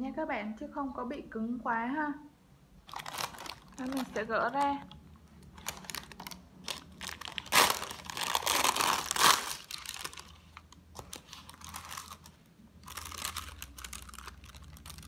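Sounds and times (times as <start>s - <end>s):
parchment paper crinkling: 2.8s - 15.0s.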